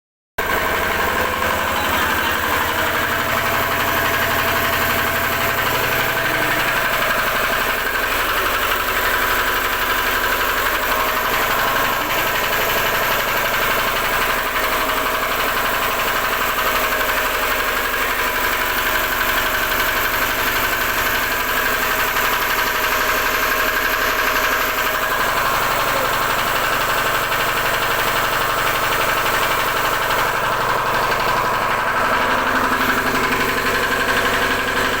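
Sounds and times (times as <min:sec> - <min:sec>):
generator engine running: 0:00.4 - 0:35.0.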